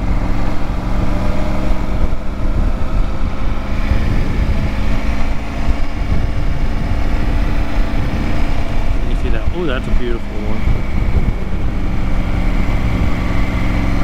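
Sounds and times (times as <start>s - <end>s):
motorcycle engine running: 0.0s - 14.0s
wind rumbling on microphone: 0.0s - 14.0s.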